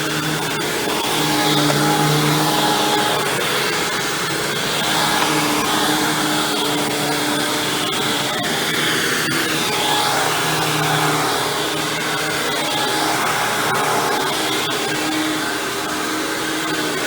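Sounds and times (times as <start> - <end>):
vacuum cleaner motor hum: 0.0 - 17.0.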